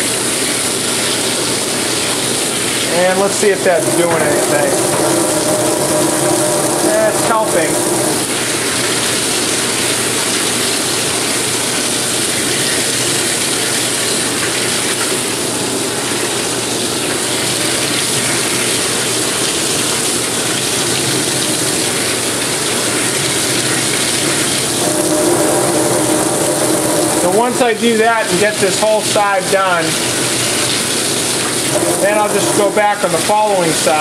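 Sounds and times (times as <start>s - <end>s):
water jet hissing on coil: 0.0s - 15.5s, 16.9s - 34.0s
water splashing into metal sink: 0.8s - 15.2s, 17.0s - 34.0s.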